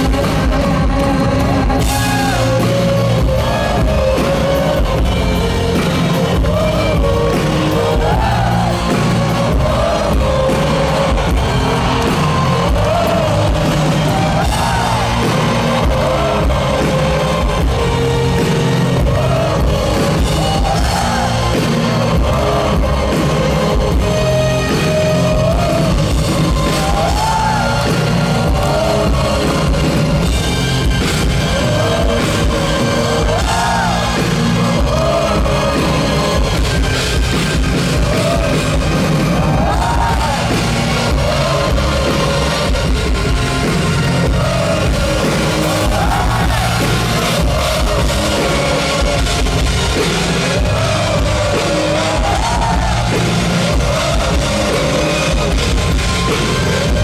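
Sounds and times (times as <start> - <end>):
crowd shouts and whoops: 0.0 - 57.0
crowd singing along: 0.0 - 57.0
live rock band playing: 0.0 - 57.0.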